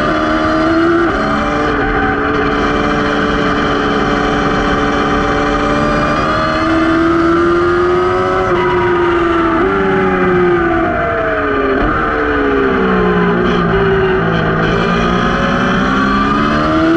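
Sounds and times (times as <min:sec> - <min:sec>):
racing motorcycle engine revving: 0:00.0 - 0:16.9
rushing wind: 0:00.0 - 0:16.9.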